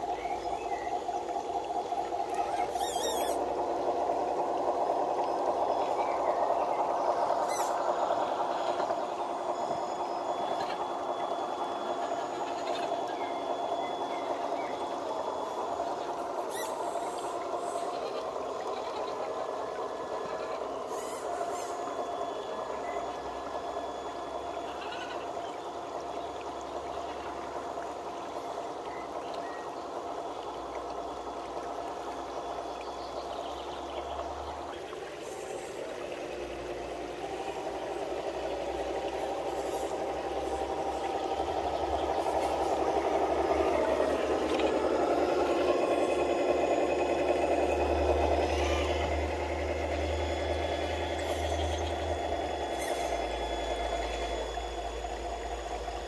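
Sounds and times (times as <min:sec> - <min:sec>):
toy truck motors whining: 0:00.0 - 0:29.2, 0:34.1 - 0:56.0
stream splashing and trickling: 0:00.0 - 0:56.0.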